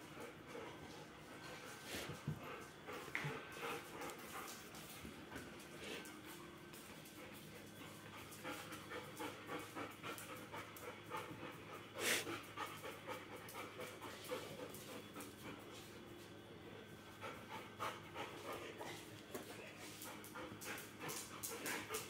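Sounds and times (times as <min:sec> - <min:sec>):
dogs panting: 0:00.0 - 0:22.0.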